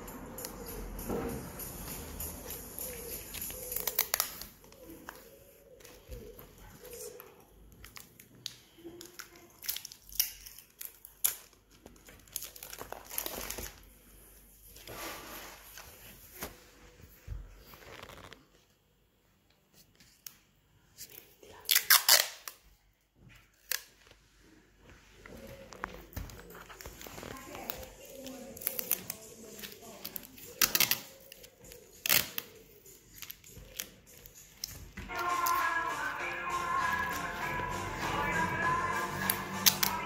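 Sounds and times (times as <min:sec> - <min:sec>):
plastic straws and paper crinkling: 0:01.7 - 0:18.7, 0:23.4 - 0:40.0.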